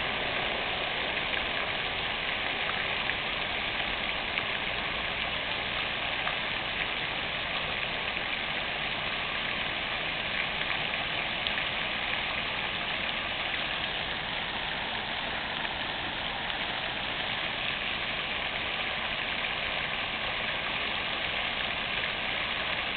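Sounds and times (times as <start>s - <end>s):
fountain water splashing: 0.0s - 22.9s.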